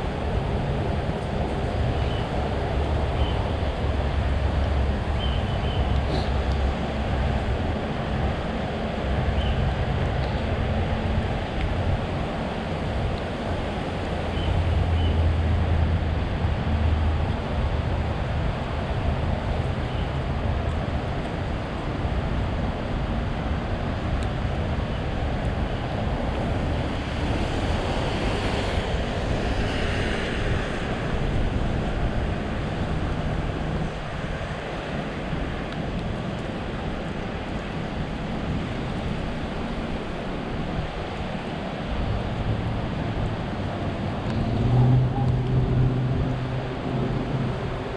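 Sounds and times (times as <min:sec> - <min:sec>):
low engine hum: 0:00.0 - 0:47.9
traffic noise: 0:00.0 - 0:47.9.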